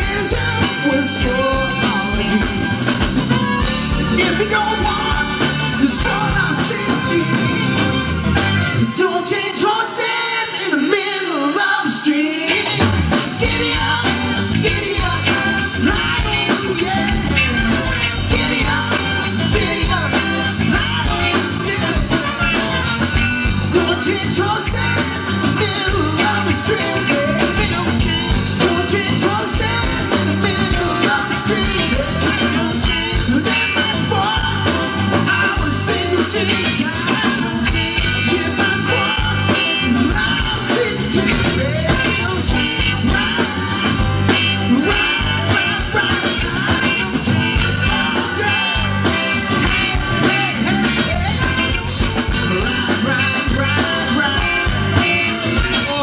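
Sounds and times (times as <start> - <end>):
bass: 0.0 - 10.7, 11.9 - 56.0
drums: 0.0 - 56.0
electric guitars: 0.0 - 56.0
keyboard: 0.0 - 56.0.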